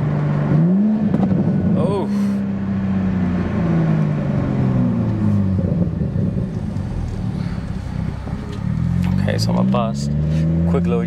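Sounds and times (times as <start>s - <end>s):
car engine and exhaust from cabin: 0.0s - 11.0s.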